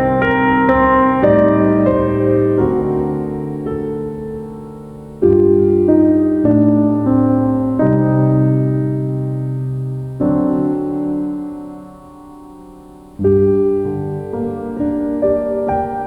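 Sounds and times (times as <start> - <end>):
gentle piano piece: 0.0 - 16.0.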